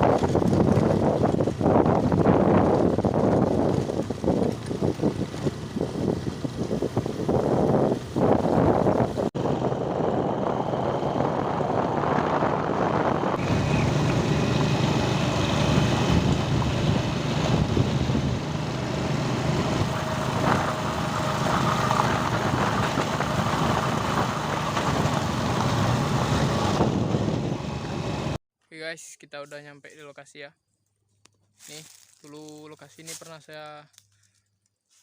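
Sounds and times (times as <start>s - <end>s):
vehicle engine running: 0.0s - 28.4s
wind rushing over microphone: 0.0s - 28.4s.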